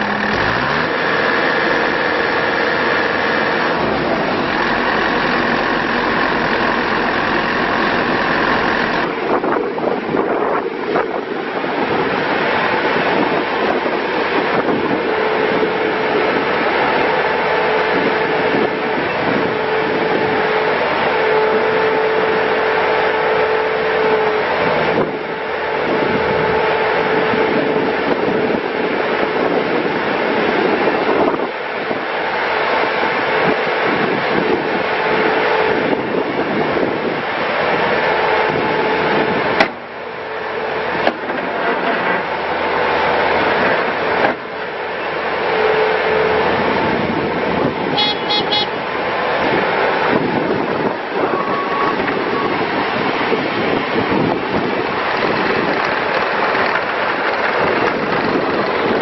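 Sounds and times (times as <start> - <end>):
steady whine: 0.0 - 59.0
track loader diesel engine: 0.0 - 59.0.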